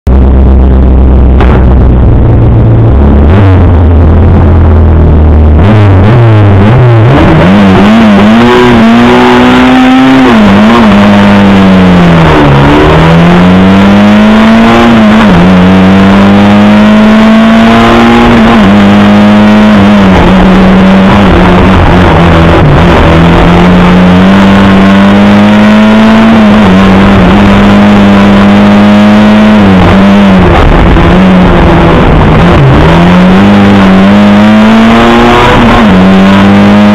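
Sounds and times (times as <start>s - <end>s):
car engine revving through gears: 0.1s - 36.9s.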